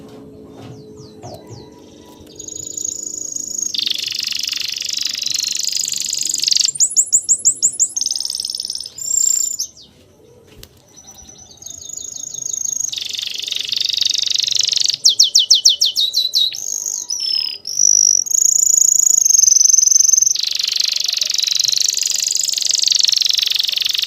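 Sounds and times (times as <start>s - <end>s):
songbirds trilling: 0.0s - 24.0s
bird whistle: 1.4s - 9.7s, 11.3s - 24.0s.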